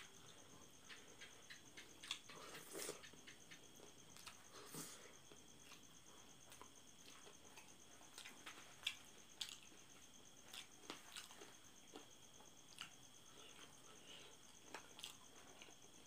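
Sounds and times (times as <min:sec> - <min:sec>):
wet chewing and lip-smacking: 0:00.9 - 0:04.5, 0:05.3 - 0:13.7, 0:14.4 - 0:16.0.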